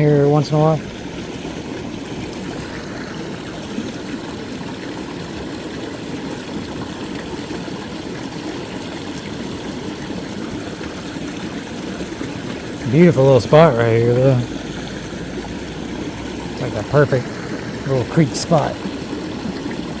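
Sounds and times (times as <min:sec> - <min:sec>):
creek water over rocks: 0:00.0 - 0:20.0.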